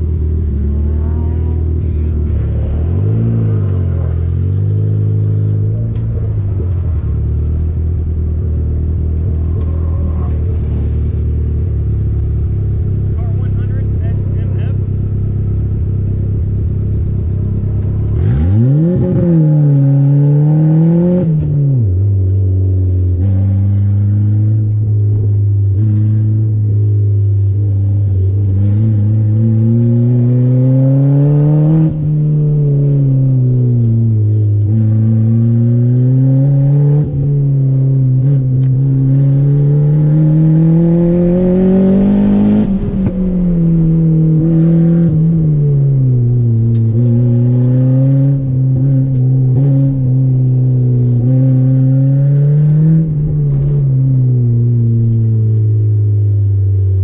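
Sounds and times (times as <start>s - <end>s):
turbocharged car engine revving: 0.0s - 57.0s.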